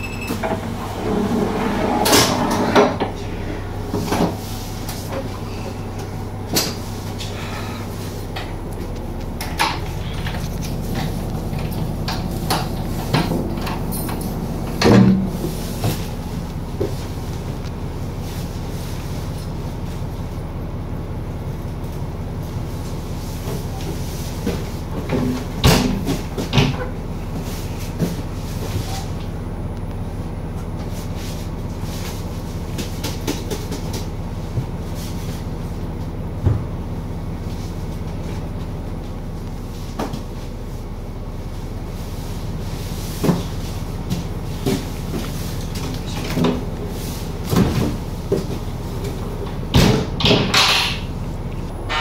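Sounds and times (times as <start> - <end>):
diesel railcar engine drone: 0.0 - 52.0.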